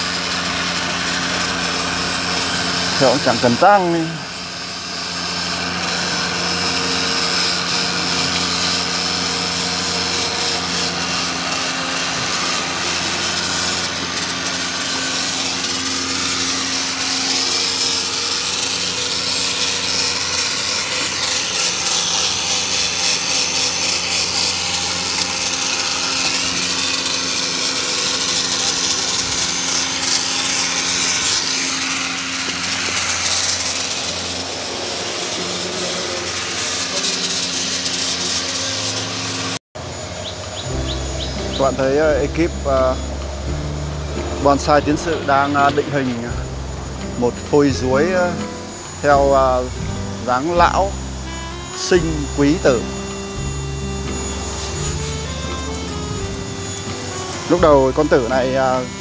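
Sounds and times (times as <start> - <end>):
power tool grinding wood: 0.0 - 59.0.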